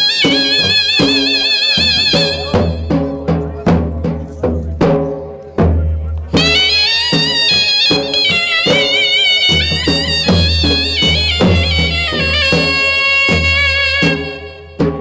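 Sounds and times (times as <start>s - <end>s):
reedy wind instrument melody: 0.0s - 3.3s, 6.2s - 15.0s
steady drum beat: 0.0s - 15.0s.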